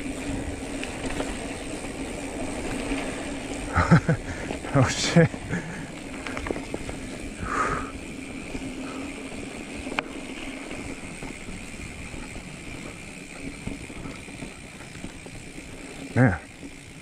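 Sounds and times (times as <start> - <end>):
constant hum: 0.0 - 17.0
mountain bike rolling on dirt: 0.0 - 17.0.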